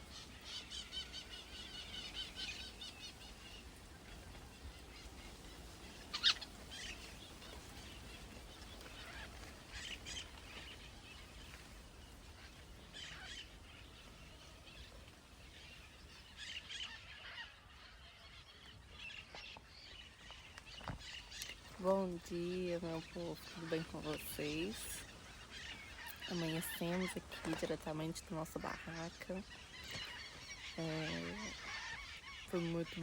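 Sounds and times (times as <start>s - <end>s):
birds calling: 0.0s - 33.0s.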